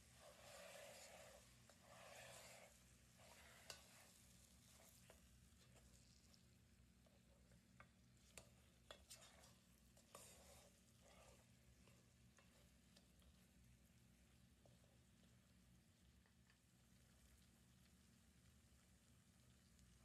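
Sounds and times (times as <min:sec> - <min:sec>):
low sizzle: 0:00.0 - 0:20.0
utensil stirring food in a pan: 0:00.0 - 0:20.0.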